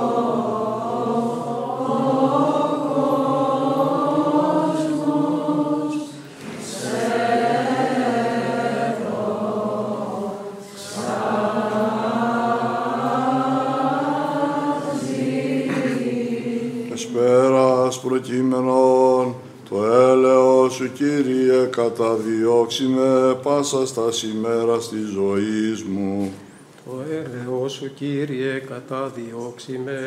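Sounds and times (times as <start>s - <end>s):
low held vocal drone: 0.0s - 26.3s
melismatic chant singing: 0.0s - 28.5s.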